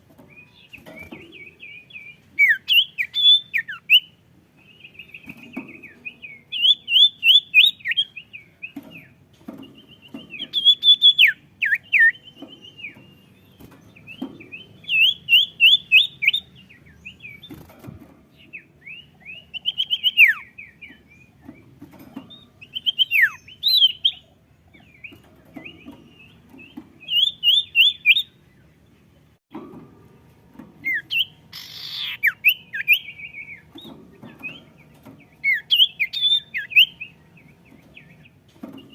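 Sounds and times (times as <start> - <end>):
songbird chirping trills: 0.0 - 17.7, 18.3 - 29.4, 30.1 - 38.9.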